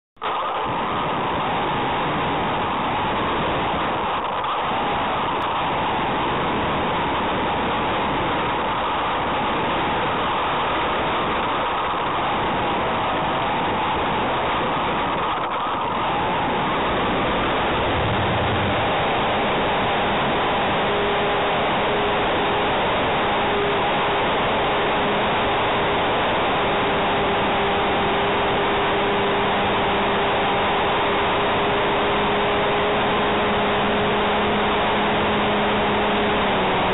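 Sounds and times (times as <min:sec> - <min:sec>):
steady whine: 0:00.2 - 0:36.9
wind rush: 0:00.2 - 0:36.9.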